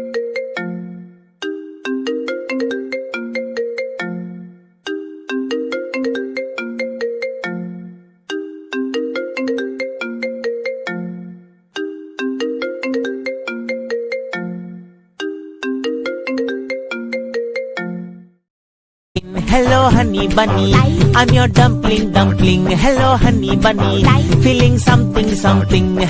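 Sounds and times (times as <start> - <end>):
melodic ringtone: 0.0 - 18.4, 19.6 - 26.0.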